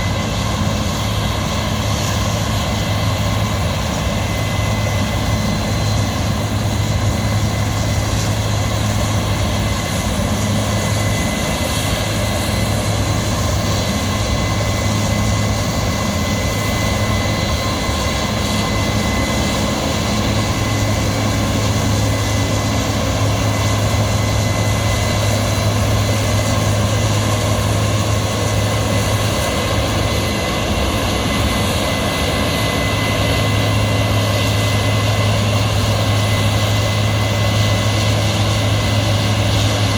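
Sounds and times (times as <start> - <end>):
heavy machinery engine droning: 0.0 - 39.9.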